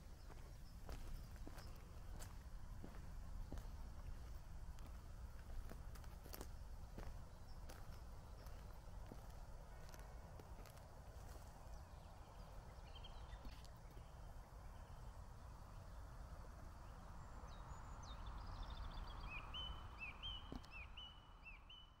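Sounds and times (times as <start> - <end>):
small bird chirping: 0.0 - 15.0, 17.6 - 22.0.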